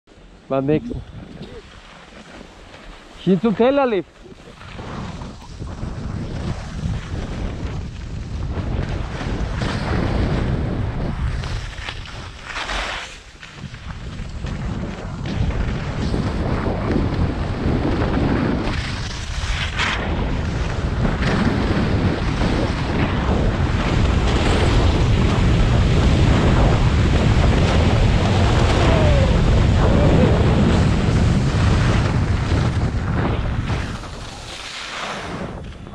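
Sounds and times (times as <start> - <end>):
wind buffeting microphone: 0.6 - 12.4, 13.5 - 35.9.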